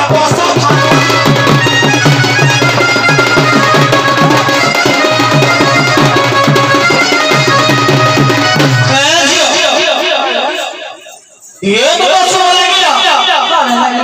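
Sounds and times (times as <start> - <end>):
rapid hand-drum strokes: 0.0 - 11.3.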